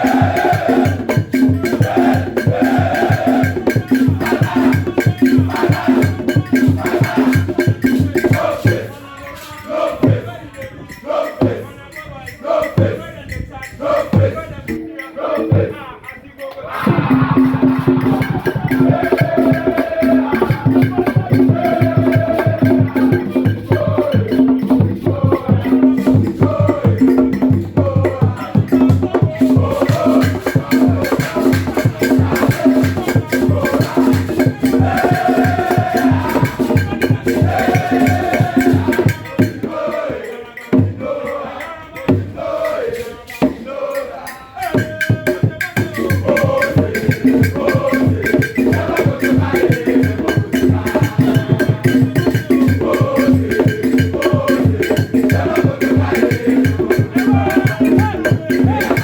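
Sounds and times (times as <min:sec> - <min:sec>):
loud percussion music: 0:00.0 - 0:59.0.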